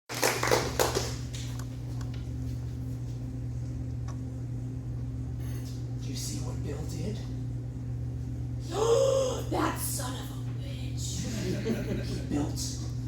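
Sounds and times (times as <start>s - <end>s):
low electrical hum: 0.1s - 13.0s.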